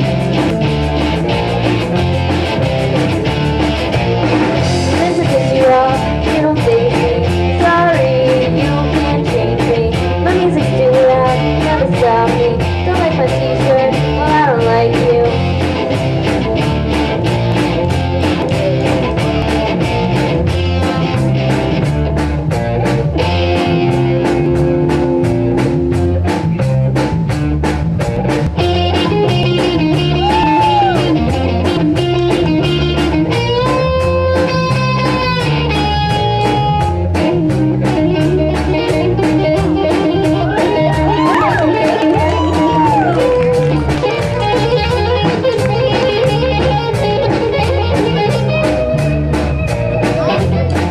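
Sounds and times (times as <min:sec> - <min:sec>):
electric guitar: 0:00.0 - 0:50.9
steady drum beat: 0:00.0 - 0:50.9.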